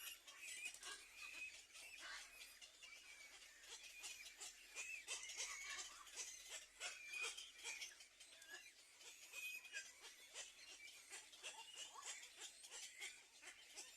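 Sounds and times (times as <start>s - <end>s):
high-pitched bird chirping: 0.0s - 13.9s
small ticks: 0.0s - 13.9s.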